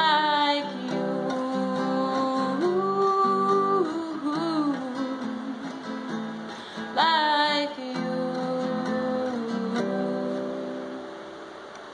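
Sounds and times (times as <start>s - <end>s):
woman singing: 0.0s - 11.4s
strummed acoustic guitar: 0.0s - 11.9s.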